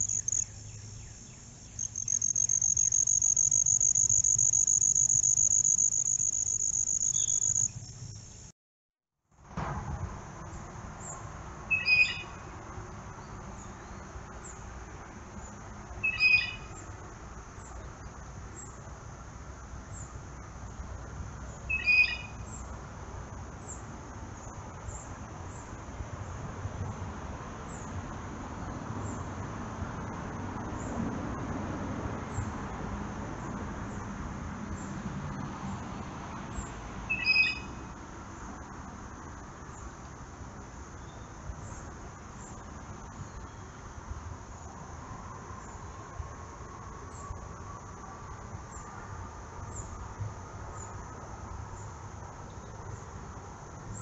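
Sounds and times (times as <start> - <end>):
high insect trill: 0.0 - 8.5, 10.2 - 31.5, 32.3 - 54.0.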